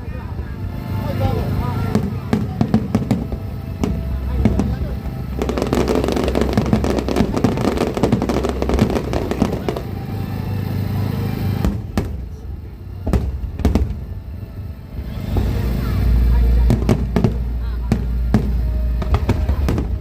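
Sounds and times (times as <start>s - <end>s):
fireworks crackling: 0.0s - 20.0s
low rumble: 0.0s - 20.0s
fireworks bangs: 0.3s - 20.0s.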